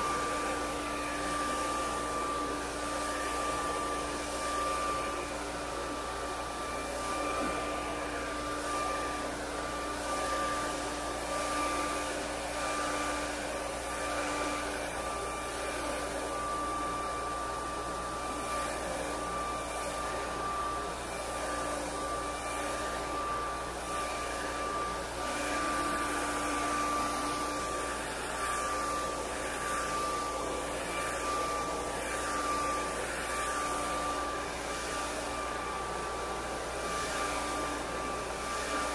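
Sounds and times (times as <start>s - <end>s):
hair dryer motor whine: 0.0s - 38.9s.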